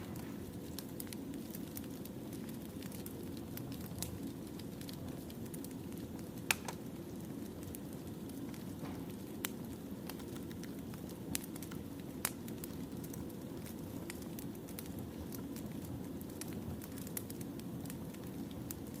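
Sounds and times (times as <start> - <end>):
fire rumbling: 0.0 - 19.0
firewood crackling and popping: 0.0 - 19.0.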